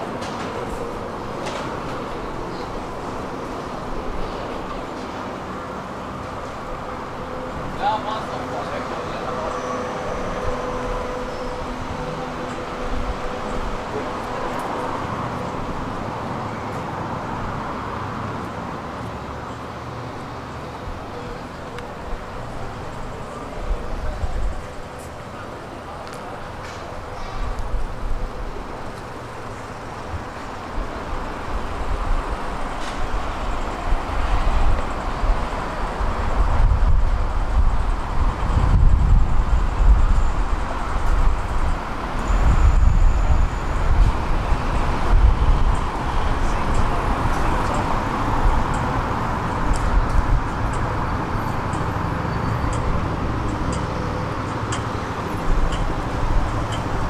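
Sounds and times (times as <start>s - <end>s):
low rumble of vehicles: 0.0s - 57.0s.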